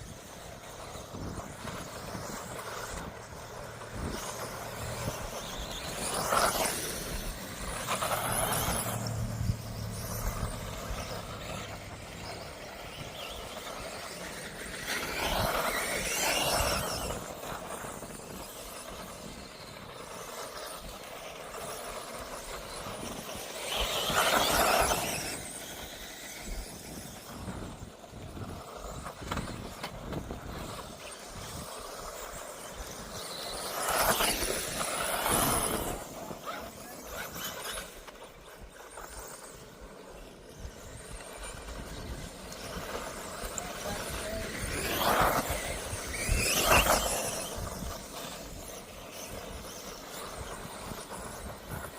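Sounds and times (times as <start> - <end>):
electric model cars whining: 0.0 - 51.9.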